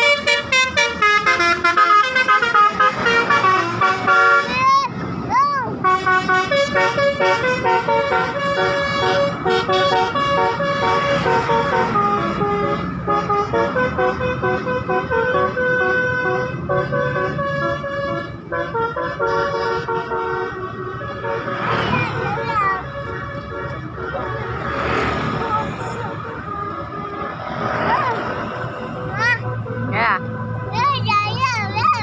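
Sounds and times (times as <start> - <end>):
musical vehicle horn playing tune: 0.0 - 4.6, 5.8 - 27.4.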